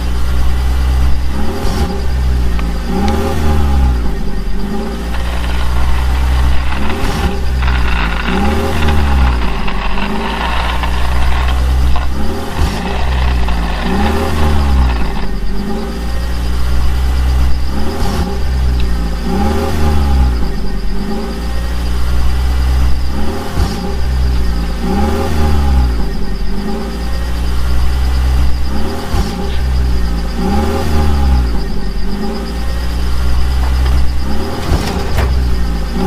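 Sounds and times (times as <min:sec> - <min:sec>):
high whine: 0:00.0 - 0:36.0
vehicle engine revving: 0:00.0 - 0:36.0.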